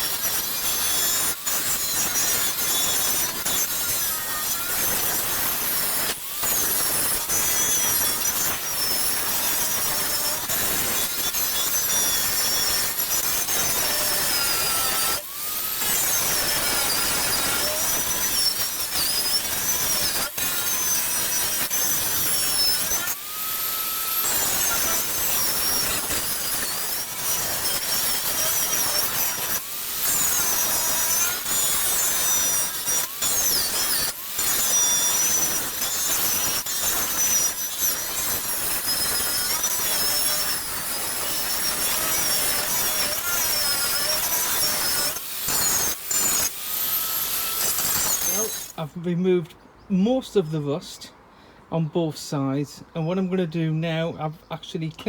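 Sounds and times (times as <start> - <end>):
angle grinder wire wheel on metal: 0.0 - 48.9.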